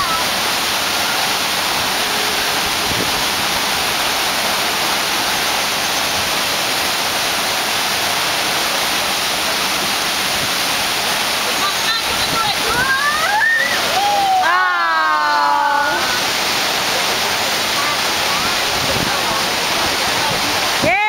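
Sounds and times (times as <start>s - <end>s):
water rushing over surf wave: 0.0s - 21.0s.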